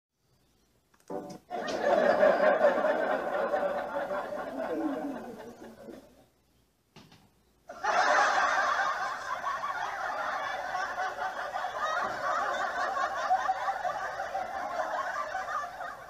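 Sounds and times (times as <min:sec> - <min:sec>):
people laughing: 0:01.5 - 0:06.2, 0:07.7 - 0:16.0.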